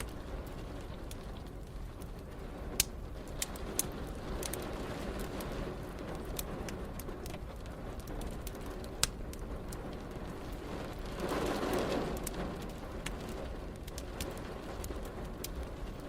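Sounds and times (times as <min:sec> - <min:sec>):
rain rushing: 0:00.0 - 0:16.0
wood fire crackling and popping: 0:00.0 - 0:16.0.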